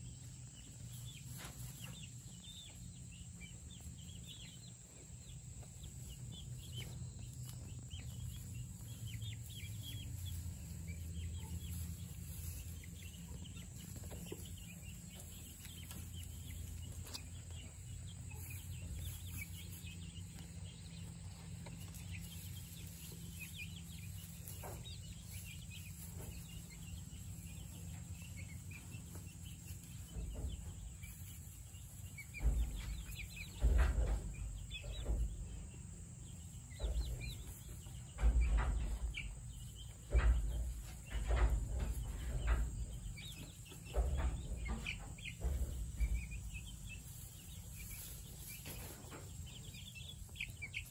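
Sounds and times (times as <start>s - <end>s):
chicks peeping and chirping: 0.0s - 50.9s.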